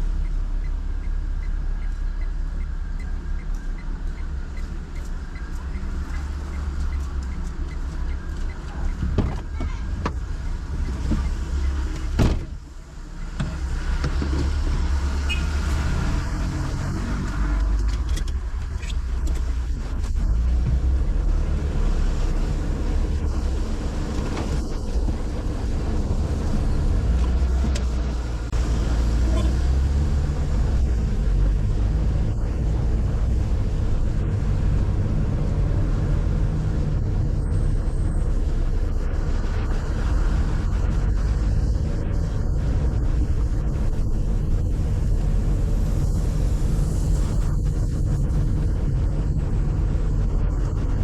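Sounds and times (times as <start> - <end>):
car engine and road rumble: 0.0 - 51.0
faint tyre noise: 0.0 - 51.0.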